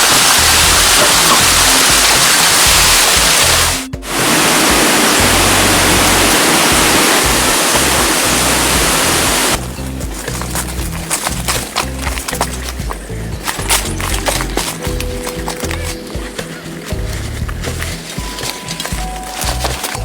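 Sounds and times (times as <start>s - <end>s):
background music: 0.0s - 20.0s
heavy rain hissing: 0.0s - 20.0s
sharp ticks and knocks: 0.0s - 20.0s.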